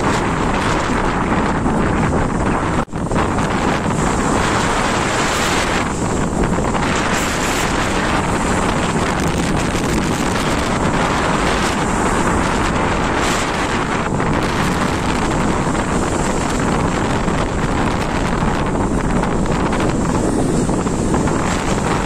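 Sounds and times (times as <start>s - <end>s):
sea waves washing: 0.0s - 22.0s
strong wind on microphone: 0.0s - 22.0s.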